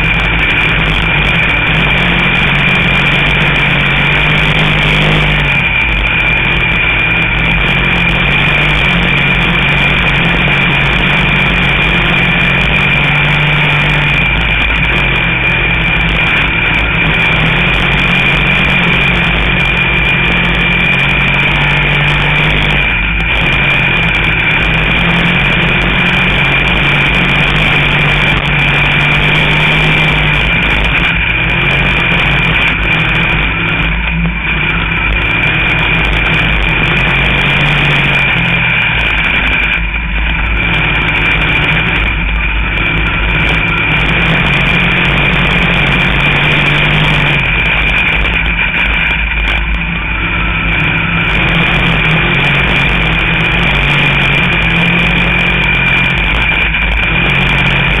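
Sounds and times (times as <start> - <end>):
high whine: 0.0 - 58.0
race car engine running hard: 0.0 - 58.0.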